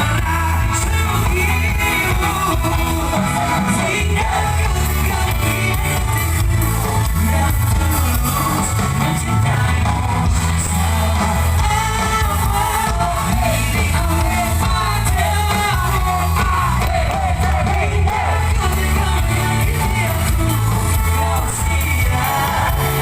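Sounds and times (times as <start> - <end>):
heavy bass beat: 0.0 - 23.0
live pop band: 0.0 - 23.0
person singing: 0.0 - 23.0.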